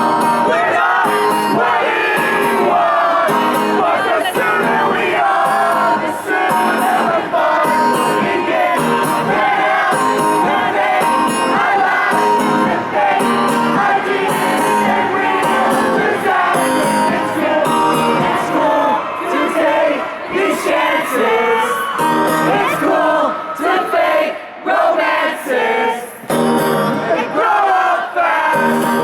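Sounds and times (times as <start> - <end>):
crowd shouting: 0.0 - 29.0
crowd singing along: 0.0 - 29.0.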